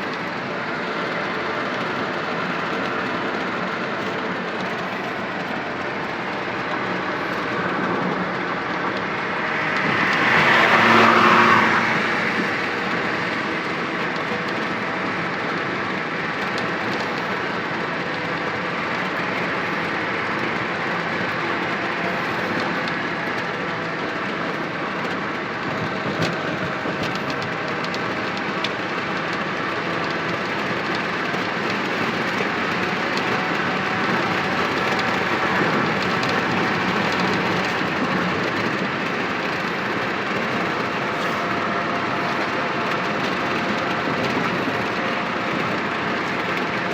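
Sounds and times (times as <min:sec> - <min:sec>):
truck engine and road noise: 0:00.0 - 0:46.9.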